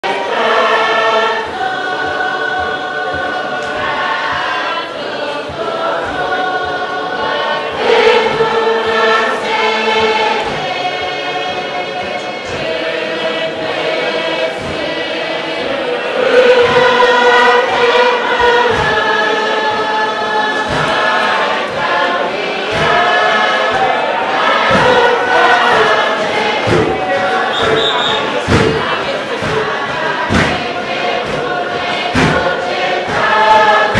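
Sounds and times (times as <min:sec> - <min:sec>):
group singing in chorus: 0:00.0 - 0:33.9
low thuds of the beat: 0:00.1 - 0:33.9.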